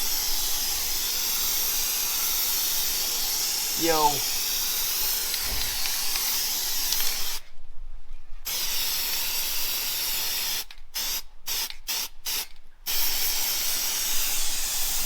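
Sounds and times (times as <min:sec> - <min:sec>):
aerosol can hissing: 0:00.0 - 0:07.4, 0:08.5 - 0:15.0.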